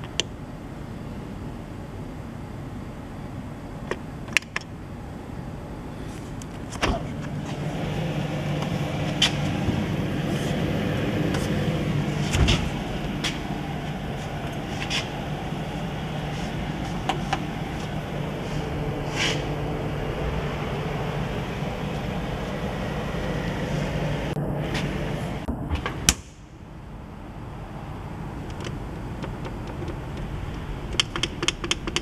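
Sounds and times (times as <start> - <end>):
refrigerator humming: 0.0 - 32.0.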